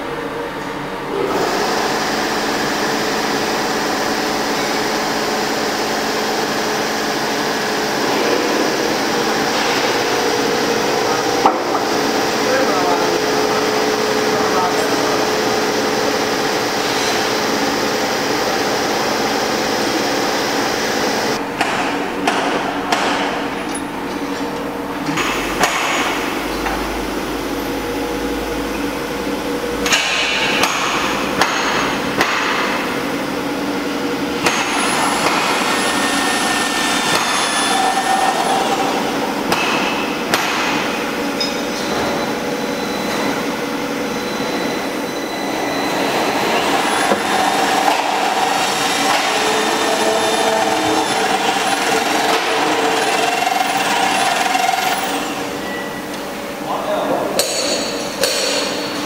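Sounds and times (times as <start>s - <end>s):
roll forming machine humming: 0.0s - 59.0s.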